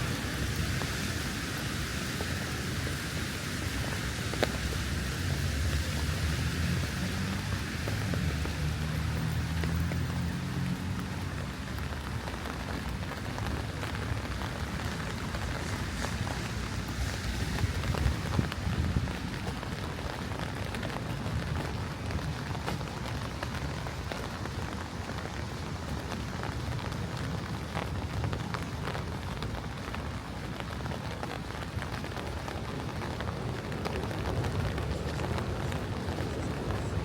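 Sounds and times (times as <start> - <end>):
rain on hard surfaces: 0.0 - 37.0.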